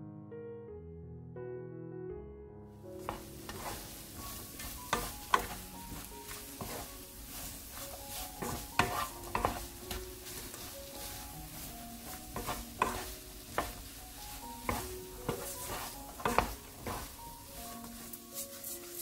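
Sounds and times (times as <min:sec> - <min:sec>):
soft piano music: 0:00.0 - 0:19.0
food sizzling in frying pan: 0:03.0 - 0:19.0
wooden spatula scraping pan: 0:03.0 - 0:19.0.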